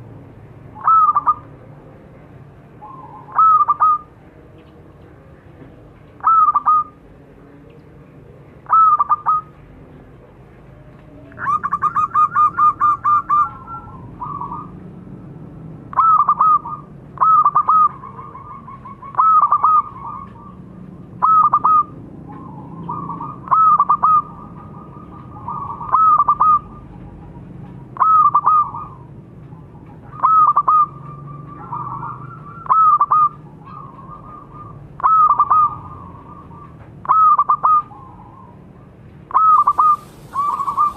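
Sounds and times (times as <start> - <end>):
dove cooing: 0.8 - 15.0, 15.8 - 40.9.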